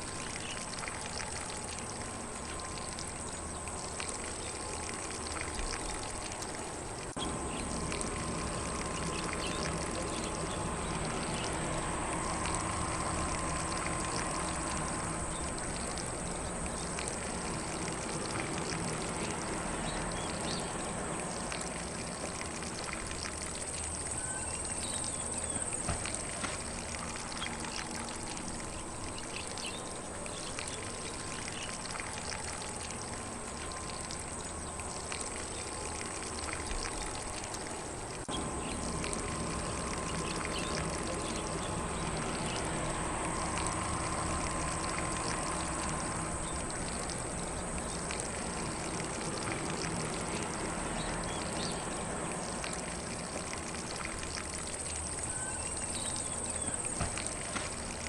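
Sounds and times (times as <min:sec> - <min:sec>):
sprinkler spraying water: 0:00.0 - 0:58.0.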